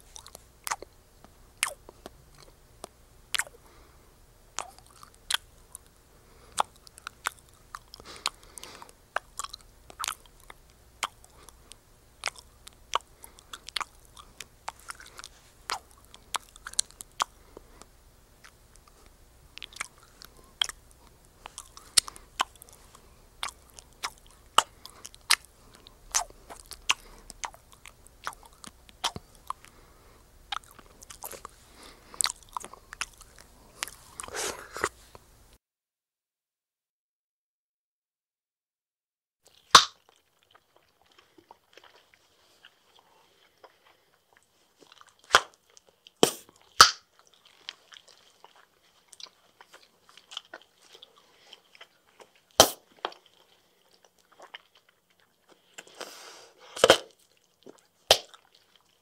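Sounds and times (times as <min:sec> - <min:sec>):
gum chewing clicks and smacks: 0:00.0 - 0:35.6, 0:39.5 - 0:56.1, 0:56.7 - 0:59.0.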